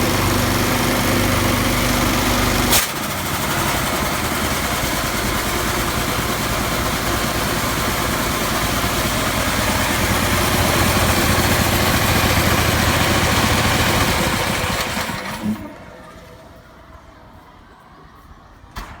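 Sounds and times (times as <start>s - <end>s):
air compressor running: 0.0s - 16.5s.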